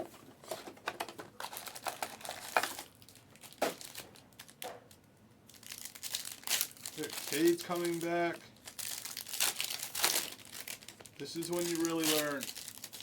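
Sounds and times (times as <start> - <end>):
card packs crinkling: 0.0 - 13.0.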